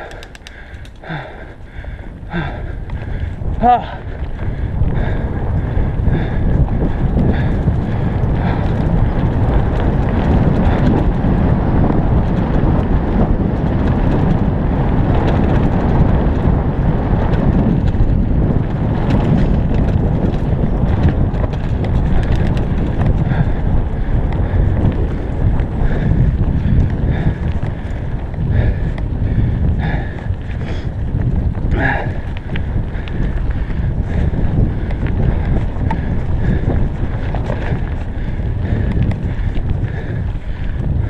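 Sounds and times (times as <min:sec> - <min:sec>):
bicycle tyre rumble on dirt: 0:00.0 - 0:41.0
heavy wind on microphone: 0:00.0 - 0:41.0
small rattles and clicks: 0:00.0 - 0:41.0.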